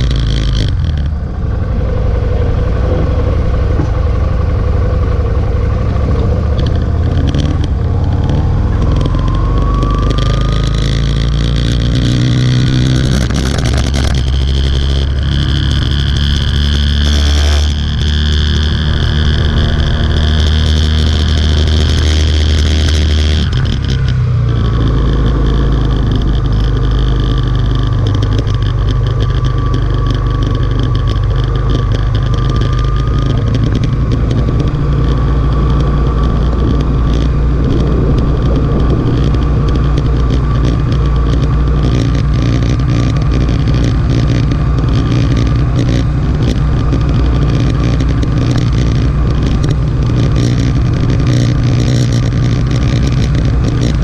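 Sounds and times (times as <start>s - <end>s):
motorcycle engine running: 0.0s - 54.0s
road noise: 0.0s - 54.0s
wind noise: 0.0s - 54.0s.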